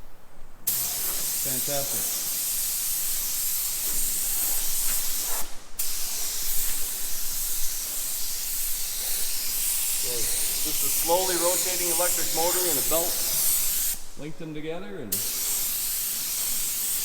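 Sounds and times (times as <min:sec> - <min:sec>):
paint sprayer hissing: 0:00.7 - 0:17.0.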